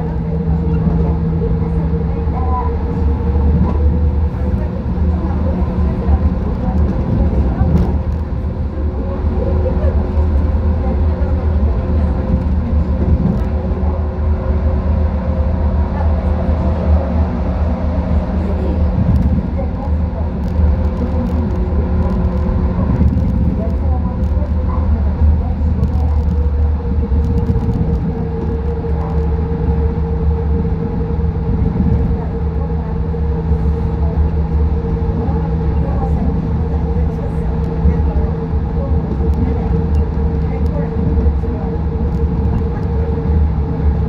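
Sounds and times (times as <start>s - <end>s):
train rumble in tunnel: 0.0s - 44.0s.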